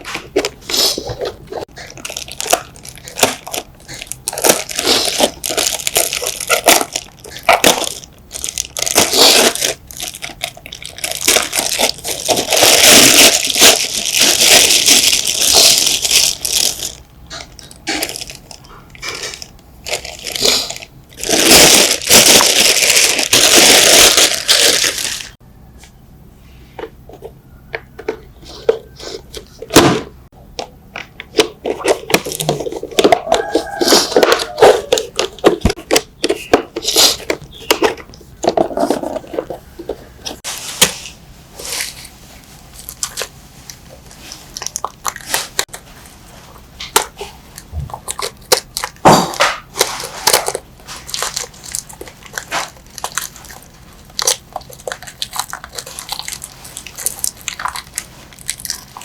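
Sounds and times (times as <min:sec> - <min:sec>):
scraping and crunching: 0:00.0 - 0:25.4, 0:31.3 - 0:59.0.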